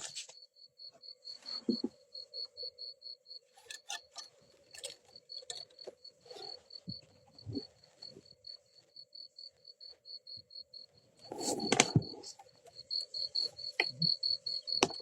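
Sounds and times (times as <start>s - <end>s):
crickets chirping: 0.0s - 15.0s
low insect drone: 0.0s - 15.0s.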